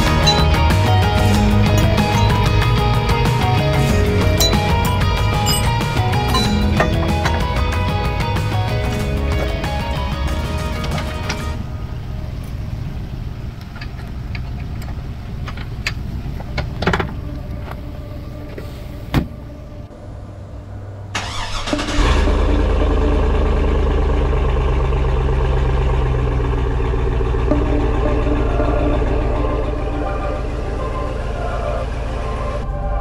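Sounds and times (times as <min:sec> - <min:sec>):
engine cranking and idling: 0:00.0 - 0:19.9, 0:20.8 - 0:33.0
low rumble: 0:00.0 - 0:33.0.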